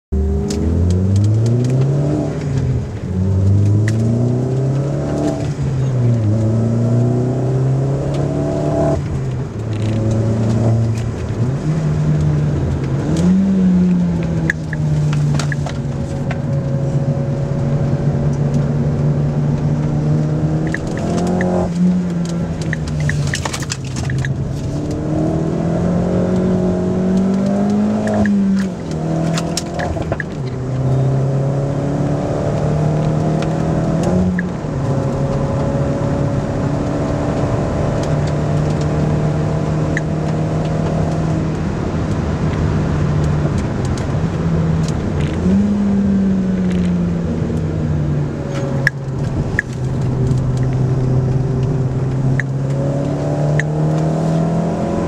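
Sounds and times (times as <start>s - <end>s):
car engine accelerating: 0.1s - 55.0s
road and tyre noise: 0.1s - 55.0s.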